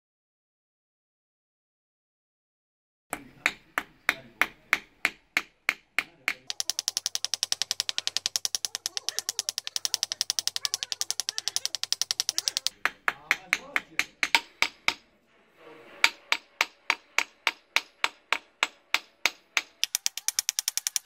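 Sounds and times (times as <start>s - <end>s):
hammer tapping: 3.1s - 15.1s, 16.0s - 21.0s.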